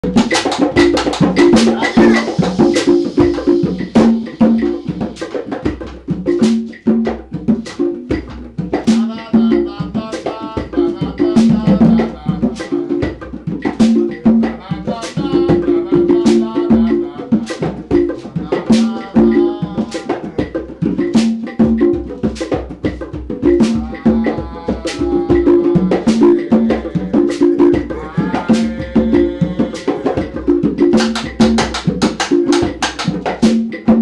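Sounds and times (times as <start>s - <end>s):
conga drums playing: 0.0s - 34.0s.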